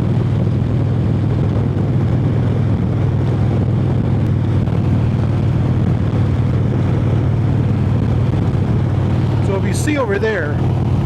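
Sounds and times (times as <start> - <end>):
motorcycle engine at steady cruise: 0.0 - 11.0.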